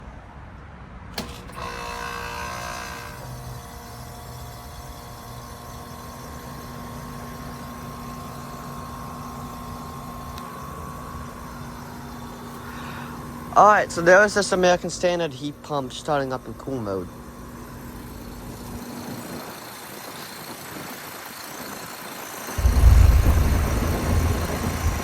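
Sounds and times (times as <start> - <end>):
heat pump compressor and fan humming: 1.1 - 25.0.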